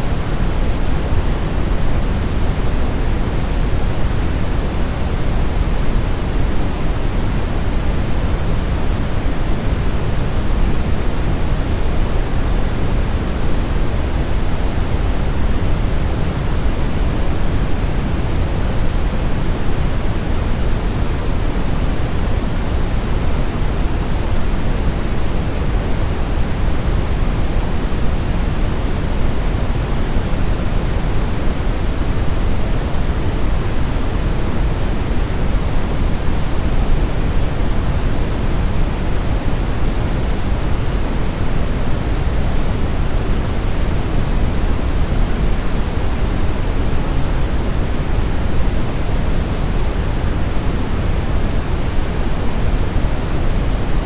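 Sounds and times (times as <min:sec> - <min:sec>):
brown noise hiss: 0:00.0 - 0:54.0.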